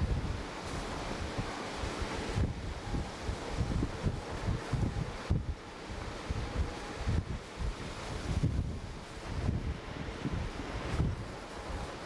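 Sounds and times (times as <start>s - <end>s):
rushing hiss of wind: 0.0s - 12.0s
wind buffeting microphone: 0.0s - 12.0s.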